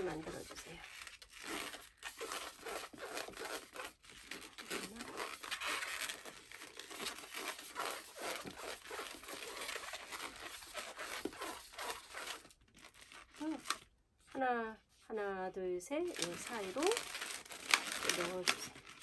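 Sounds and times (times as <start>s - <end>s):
balloon rubbing and twisting: 0.0s - 13.8s, 16.1s - 19.0s.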